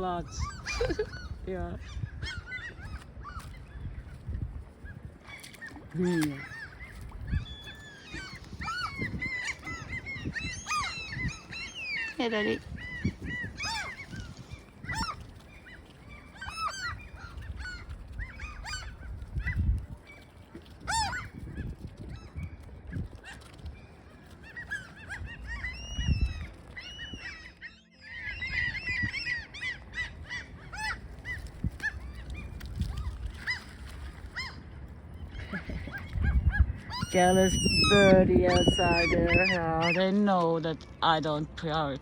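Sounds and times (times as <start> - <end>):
wind rumble on microphone: 0.0 - 40.2.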